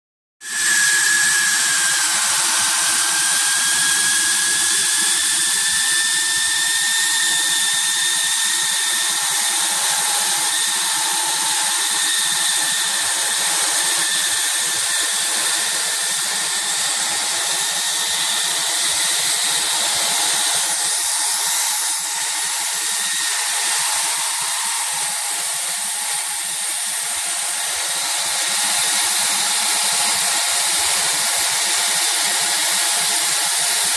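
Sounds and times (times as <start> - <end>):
hot-air welding machine blower whine: 0.4 - 33.9.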